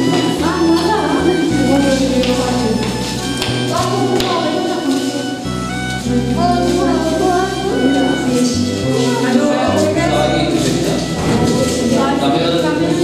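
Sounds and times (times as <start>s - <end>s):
bass line: 0.0s - 13.0s
person singing: 0.0s - 13.0s.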